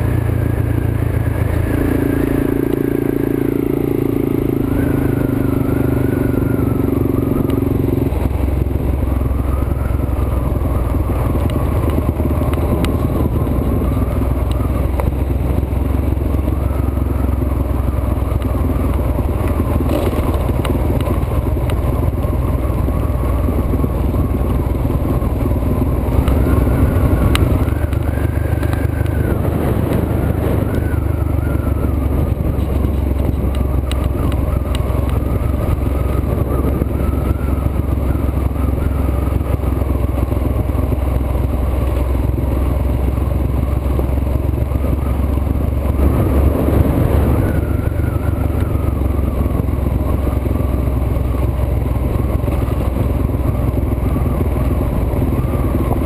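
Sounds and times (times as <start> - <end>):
motorbike engine revving: 0.0 - 41.5, 42.1 - 56.0.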